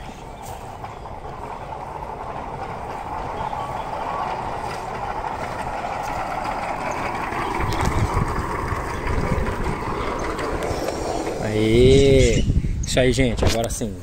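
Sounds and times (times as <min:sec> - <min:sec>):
rail cart wheels rolling on track: 0:00.0 - 0:12.4.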